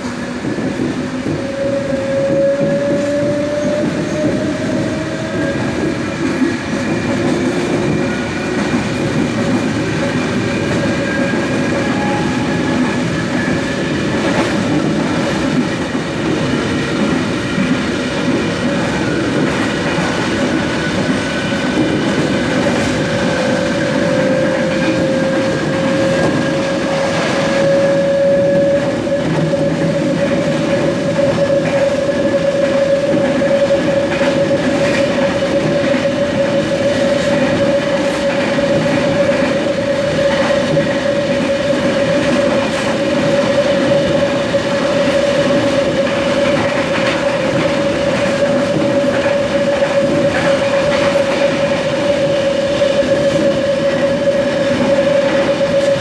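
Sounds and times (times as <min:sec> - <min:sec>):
rail joint clicks: 0:00.0 - 0:56.0
wheel-on-rail noise: 0:00.0 - 0:56.0
electric train motor whine: 0:01.2 - 0:56.0.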